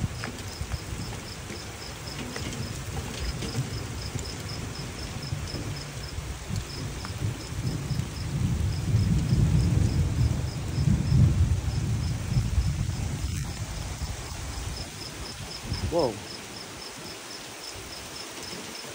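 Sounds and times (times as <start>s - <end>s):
thunder rumbling: 0.0s - 16.4s
insects chirping: 0.0s - 18.9s
rain falling: 0.0s - 18.9s.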